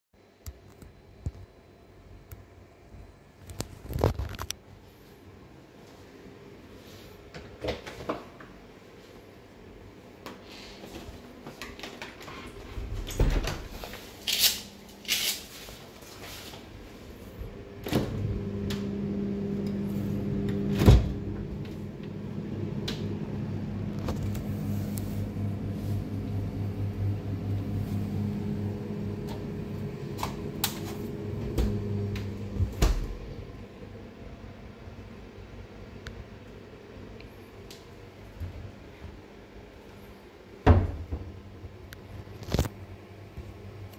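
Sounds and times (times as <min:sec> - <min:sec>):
steady electrical hum: 0:00.2 - 0:43.9.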